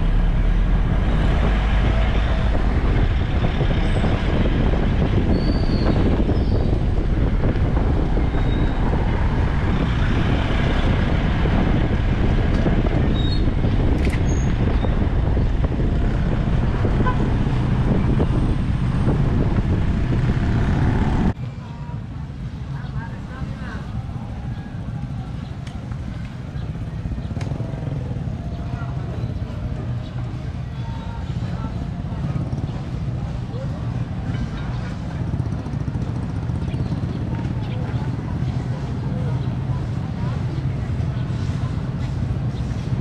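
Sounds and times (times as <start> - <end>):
vehicle engines passing: 0.0 - 43.0.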